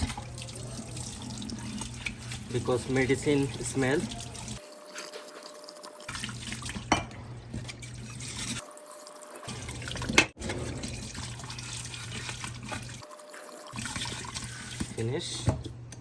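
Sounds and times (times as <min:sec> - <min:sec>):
water running over metal basket: 0:00.0 - 0:06.9, 0:07.7 - 0:15.1.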